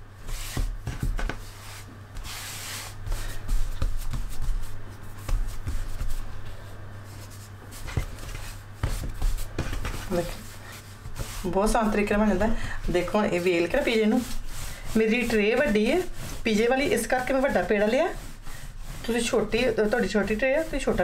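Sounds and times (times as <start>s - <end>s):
hands patting dough: 0.0s - 21.0s.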